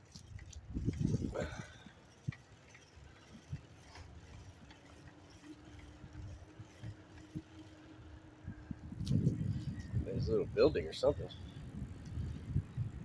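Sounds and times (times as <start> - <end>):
bicycle freewheel ticking: 0.0 - 13.0
thin steady hum: 0.0 - 13.0.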